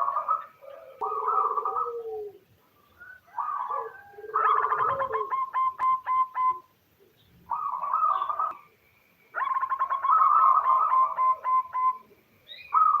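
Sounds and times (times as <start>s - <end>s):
dove staccato cooing: 0.0s - 6.7s, 7.5s - 8.7s, 9.3s - 13.0s.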